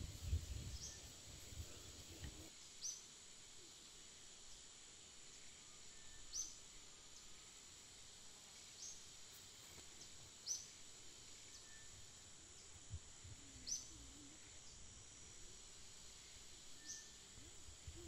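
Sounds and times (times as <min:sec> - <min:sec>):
high insect buzz: 0:00.0 - 0:18.0.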